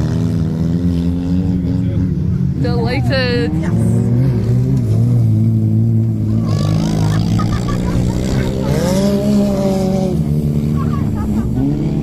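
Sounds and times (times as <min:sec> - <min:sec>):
engine revving: 0:00.0 - 0:12.0
racing car engines: 0:00.0 - 0:12.0.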